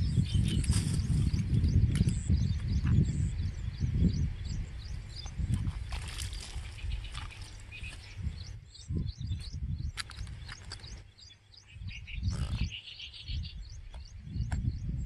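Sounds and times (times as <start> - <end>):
small birds chirping: 0.0 - 15.0
wind rumbling on microphone: 0.0 - 15.0.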